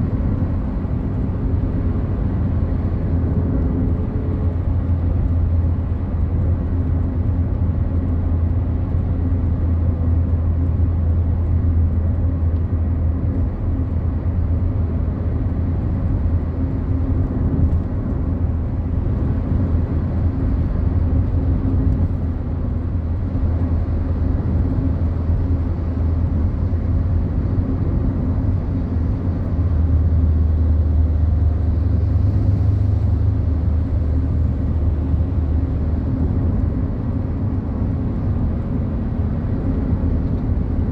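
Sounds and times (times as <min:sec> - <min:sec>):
car engine drone: 0:00.0 - 0:40.9
road and tyre noise: 0:00.0 - 0:40.9.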